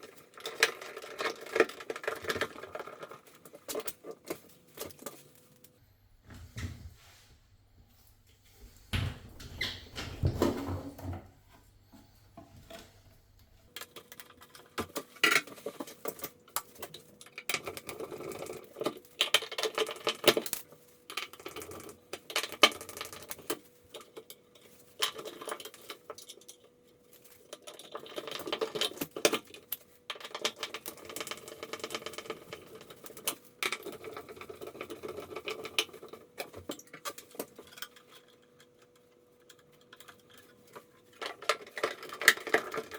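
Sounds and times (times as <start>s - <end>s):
small hard parts clicking: 0.0s - 5.7s, 13.7s - 42.9s.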